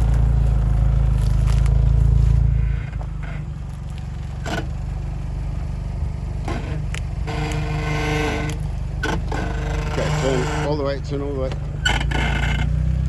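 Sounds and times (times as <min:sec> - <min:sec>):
engine running at low speed: 0:00.0 - 0:13.0
tyres crunching on terrain: 0:00.0 - 0:13.0.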